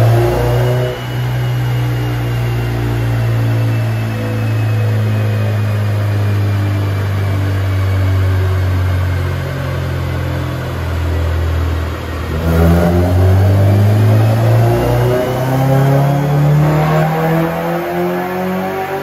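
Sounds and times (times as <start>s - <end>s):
car engine running on a dyno: 0.0s - 19.0s.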